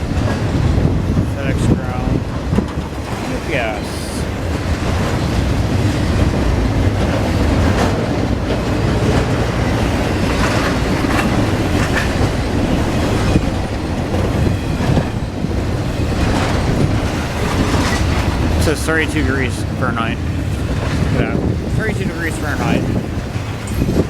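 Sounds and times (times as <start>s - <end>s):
freight train rumbling: 0.0s - 24.0s
wheels clacking over rail joints: 0.0s - 24.0s.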